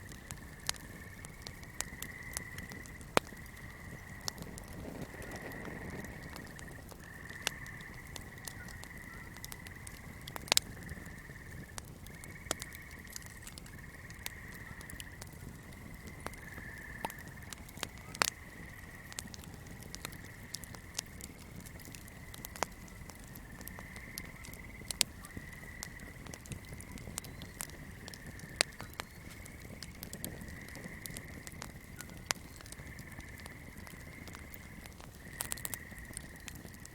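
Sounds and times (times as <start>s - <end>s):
fire crackling and popping: 0.0s - 36.9s
frogs and insects chorus: 0.0s - 36.9s.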